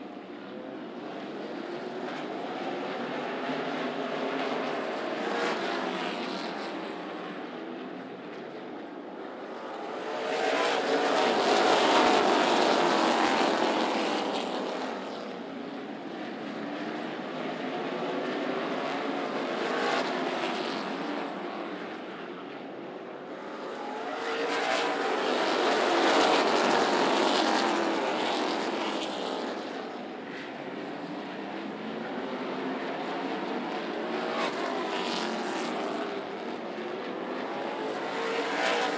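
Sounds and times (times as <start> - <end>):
race cars passing at full throttle: 0.0 - 38.9.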